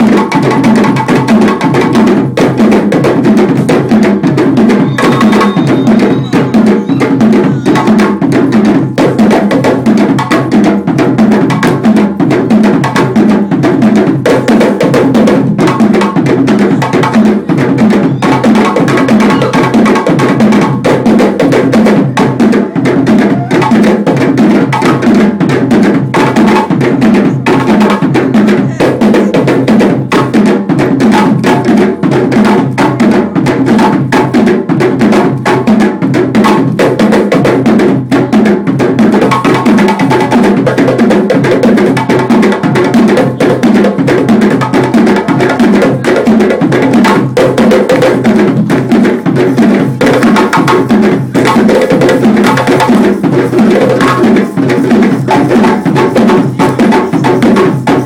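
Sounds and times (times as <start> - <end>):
hand drums playing dance rhythm: 0.0 - 58.0.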